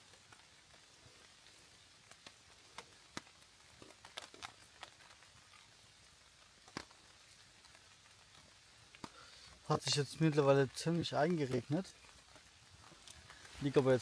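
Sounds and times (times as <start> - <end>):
quiet hiss: 0.0 - 14.0
raindrops ticking: 0.0 - 14.0.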